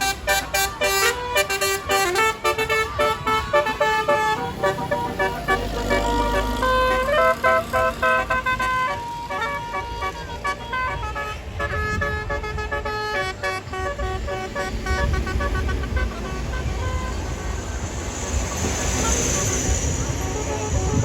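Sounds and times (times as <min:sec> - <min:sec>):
low vehicle rumble: 0:00.0 - 0:21.0
multi-trumpet bus horn tune: 0:00.0 - 0:21.0.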